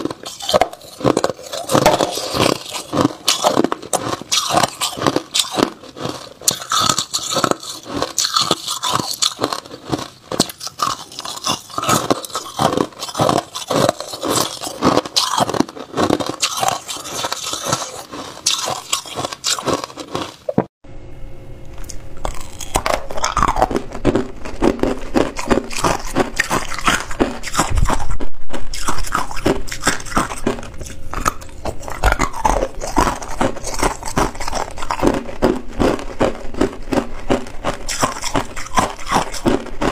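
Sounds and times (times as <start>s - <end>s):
ice cubes crunching while chewed: 0.0s - 20.5s, 21.8s - 39.9s.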